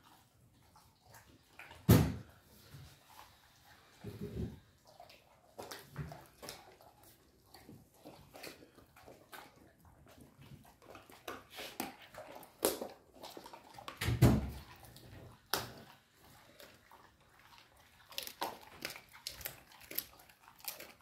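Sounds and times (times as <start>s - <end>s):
dog chewing: 0.0s - 21.0s.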